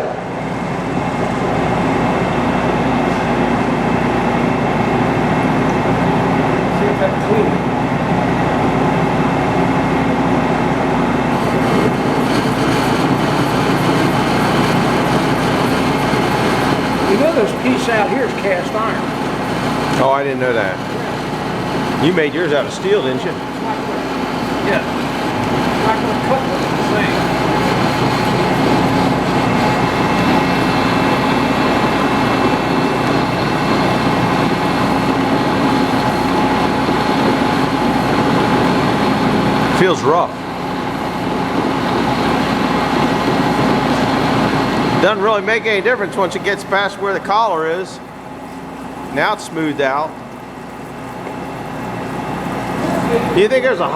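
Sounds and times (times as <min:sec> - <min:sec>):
metal lathe running: 0:00.0 - 0:53.9.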